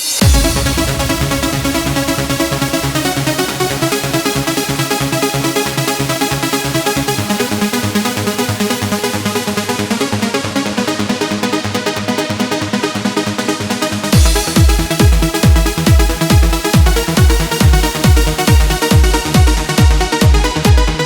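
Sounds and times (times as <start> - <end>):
electronic dance music: 0.0 - 21.0.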